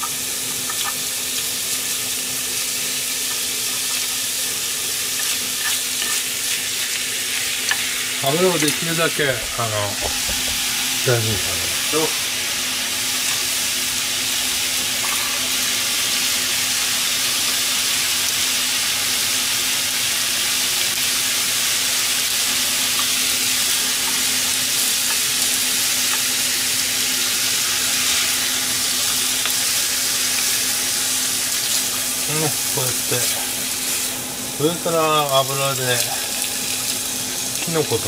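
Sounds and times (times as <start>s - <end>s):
pork sizzling in a pan: 0.0s - 38.0s.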